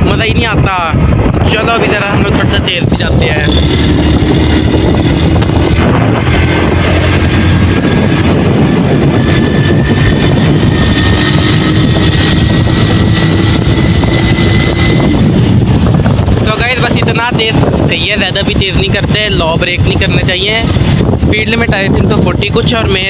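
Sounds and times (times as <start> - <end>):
wind on microphone: 0.0 - 23.0
motorcycle engine accelerating: 0.9 - 21.3.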